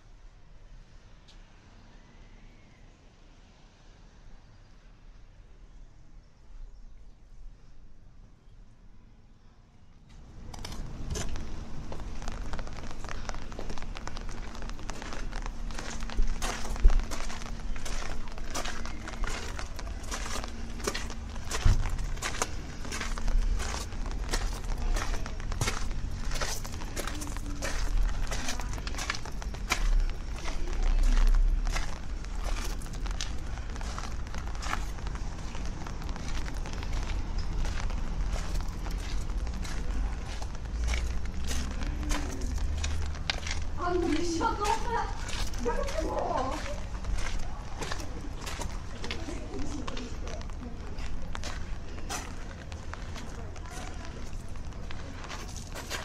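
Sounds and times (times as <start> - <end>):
rain falling: 10.8 - 56.0.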